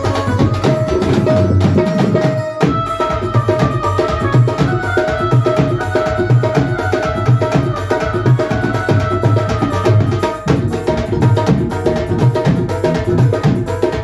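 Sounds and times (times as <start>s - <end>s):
fast hand drum rhythm: 0.0s - 14.0s.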